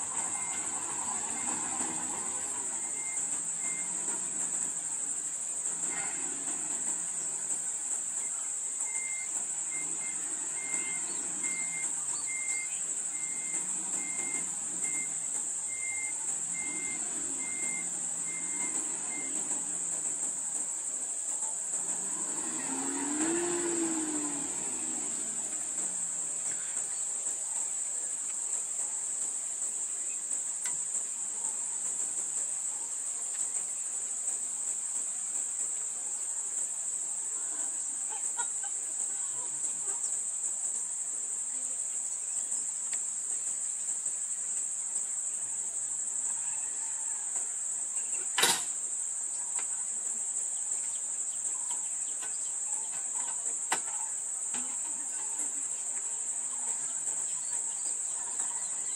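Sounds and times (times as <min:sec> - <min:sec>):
insects shrilling: 0:00.0 - 0:58.9.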